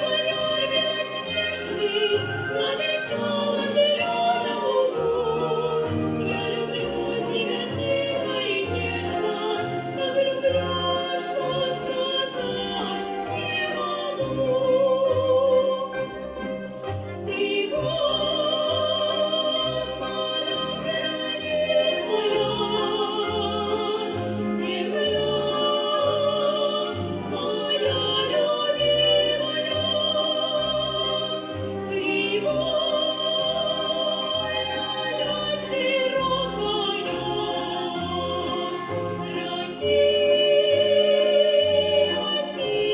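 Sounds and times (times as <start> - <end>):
folk-instrument orchestra playing: 0.0 - 42.9.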